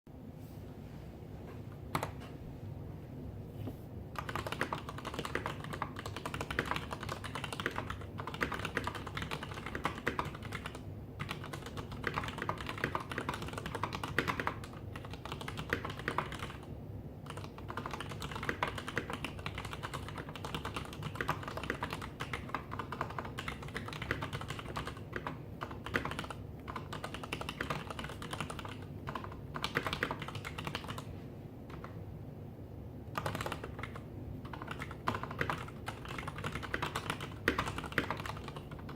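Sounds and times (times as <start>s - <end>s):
mechanical keyboard typing: 4.1s - 31.1s, 31.7s - 32.0s, 33.1s - 38.9s.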